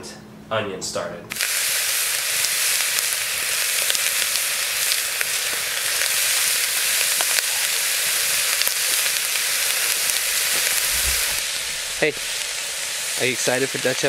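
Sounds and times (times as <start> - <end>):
bacon and onion sizzling: 1.3 - 14.0
small crackles: 1.3 - 14.0.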